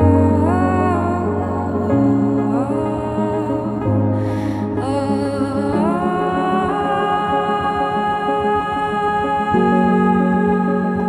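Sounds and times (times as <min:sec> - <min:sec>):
organ-like keyboard chords: 0:00.0 - 0:11.0.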